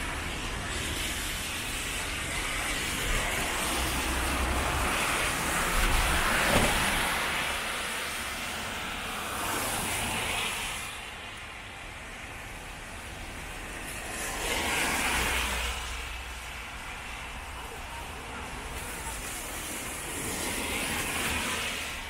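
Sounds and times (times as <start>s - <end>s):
bus tyres hissing on wet road: 0.0s - 22.0s
cars passing: 0.0s - 22.0s.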